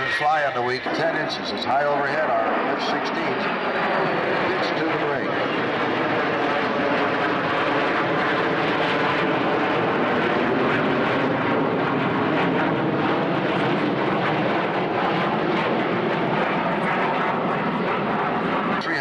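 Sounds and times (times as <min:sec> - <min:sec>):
military aircraft engines droning: 0:00.0 - 0:19.0.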